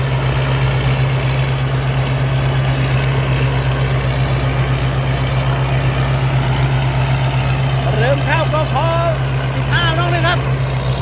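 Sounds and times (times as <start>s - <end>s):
combine harvester engine drone: 0.0s - 11.0s
high-pitched whine: 0.0s - 11.0s.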